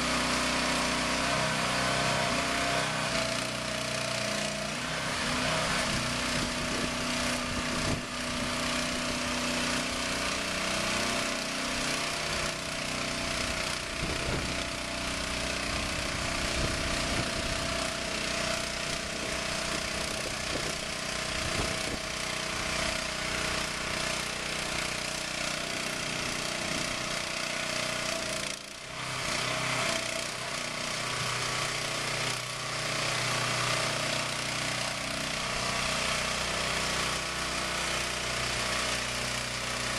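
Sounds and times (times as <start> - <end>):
hydraulic lift whining drone: 0.0 - 39.9.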